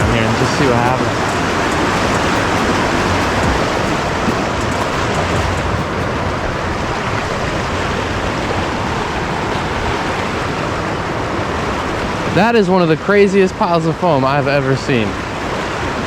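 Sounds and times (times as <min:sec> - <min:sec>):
fast-flowing river rushing: 0:00.0 - 0:12.9.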